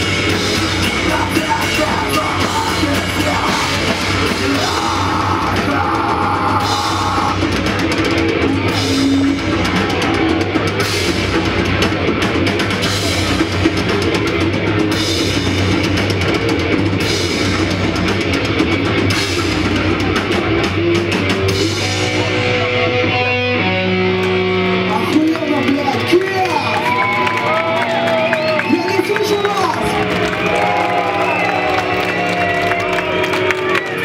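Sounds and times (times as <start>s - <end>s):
metal band playing: 0.0s - 34.0s.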